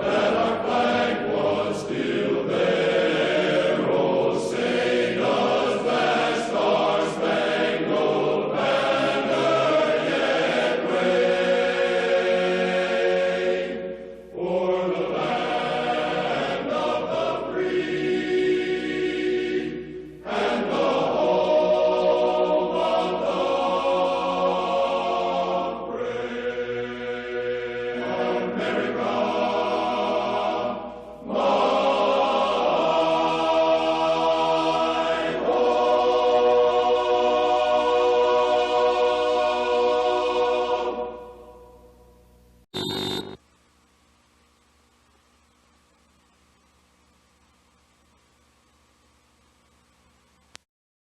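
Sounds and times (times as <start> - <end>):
choir singing held chords: 0.0 - 42.0, 42.8 - 43.4.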